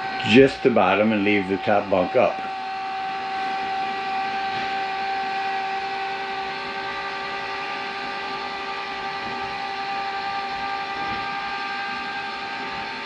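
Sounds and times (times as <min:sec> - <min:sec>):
electric lift motor whining: 0:00.0 - 0:13.0.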